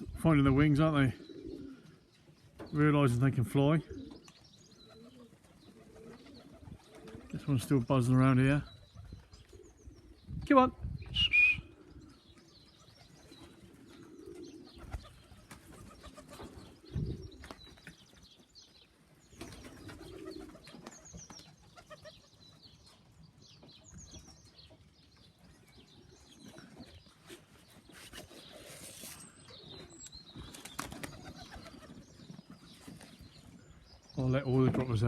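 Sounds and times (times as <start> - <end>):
pigeons cooing: 0.0 - 7.9, 8.5 - 10.3, 11.3 - 35.0
small birds chirping: 0.0 - 35.0.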